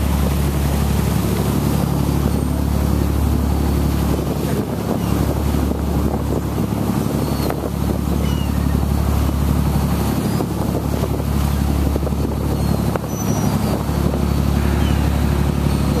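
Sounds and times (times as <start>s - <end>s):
boat engine droning: 0.0s - 16.0s
rush of boat wake: 0.0s - 16.0s
wind: 0.0s - 16.0s.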